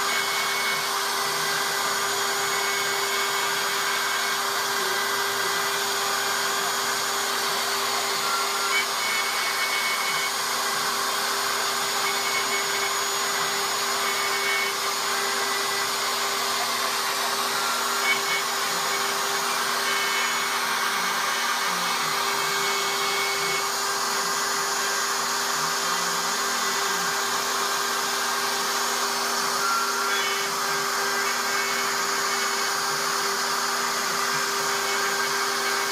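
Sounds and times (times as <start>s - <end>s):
router spindle running: 0.0s - 35.9s.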